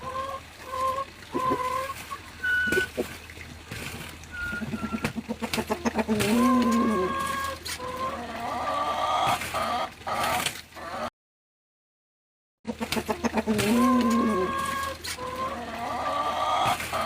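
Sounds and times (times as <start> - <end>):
hens clucking: 0.0 - 3.2, 4.2 - 11.1, 12.7 - 17.0.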